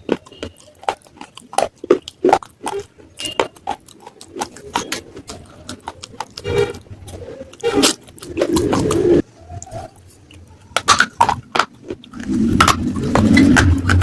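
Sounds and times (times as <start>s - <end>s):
crunching and chewing clay pieces: 0.0s - 14.0s.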